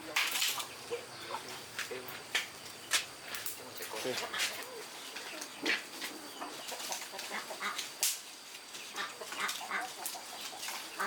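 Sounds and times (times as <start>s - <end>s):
chickens calling: 0.0s - 11.0s.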